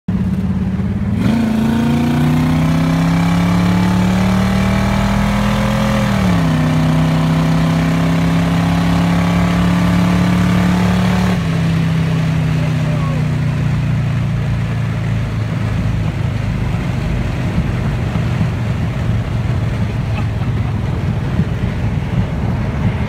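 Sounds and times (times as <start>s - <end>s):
car engine accelerating: 0.1s - 23.0s
wind and road noise: 0.1s - 23.0s.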